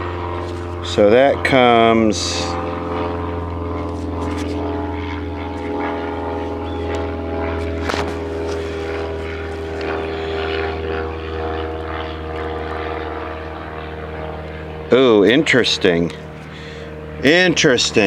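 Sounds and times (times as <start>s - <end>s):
propeller airplane engine droning: 0.0s - 18.0s.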